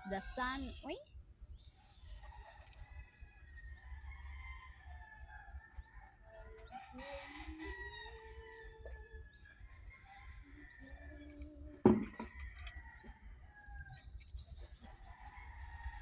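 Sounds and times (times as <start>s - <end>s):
small birds chirping: 0.0s - 16.0s
faint rooster crowing: 1.9s - 14.2s, 14.8s - 16.0s.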